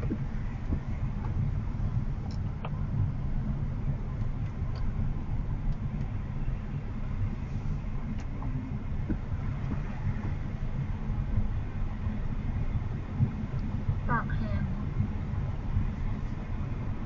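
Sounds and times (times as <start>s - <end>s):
tyre and road noise in car: 0.0s - 17.0s.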